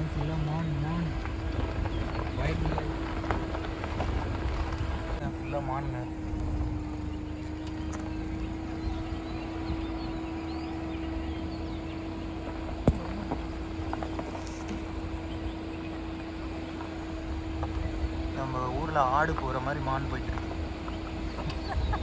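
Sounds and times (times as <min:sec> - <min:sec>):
low rumble: 0:00.0 - 0:22.0
steady low hum: 0:00.0 - 0:22.0.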